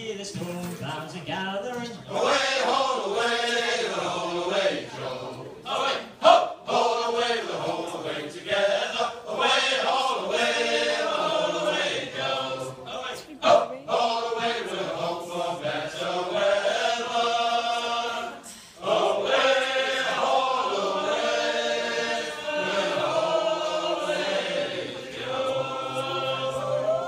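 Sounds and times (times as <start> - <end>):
group singing a sea shanty: 1.9 - 27.0.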